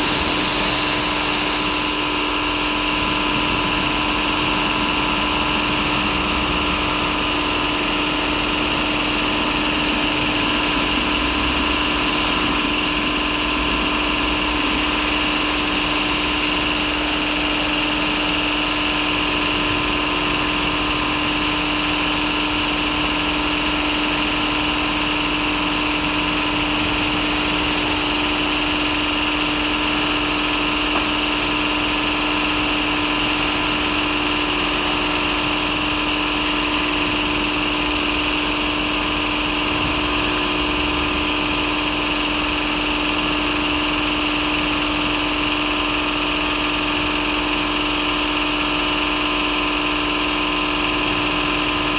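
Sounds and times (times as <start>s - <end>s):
car wash machinery humming: 0.0s - 51.9s
constant high whine: 0.0s - 51.9s.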